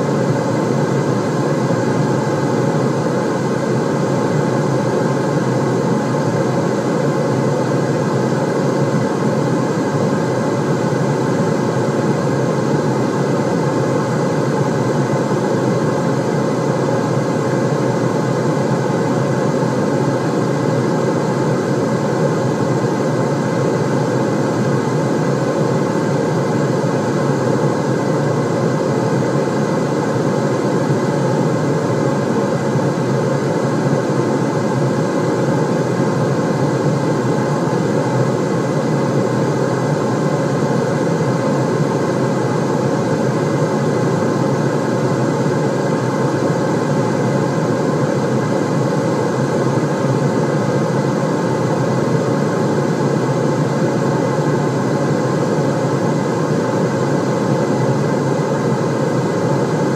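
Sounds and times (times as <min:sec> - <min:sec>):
white noise: 0:00.0 - 0:59.9.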